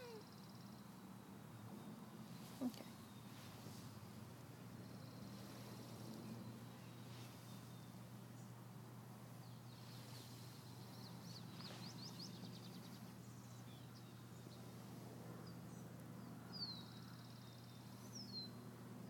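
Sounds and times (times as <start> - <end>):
songbird chirps: 0.0 - 18.8
low background hum: 0.0 - 19.0.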